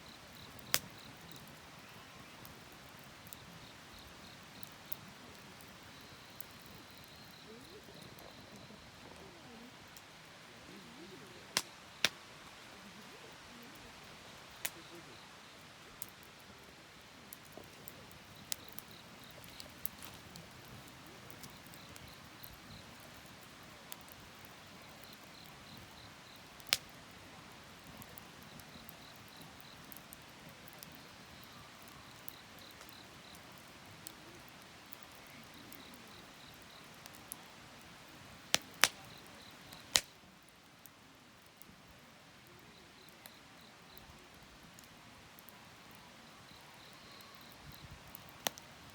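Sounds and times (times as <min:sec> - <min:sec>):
faint high insect chirps: 0:00.0 - 0:37.5, 0:38.6 - 0:40.3, 0:42.3 - 0:48.9
campfire crackling and popping: 0:00.0 - 0:48.9.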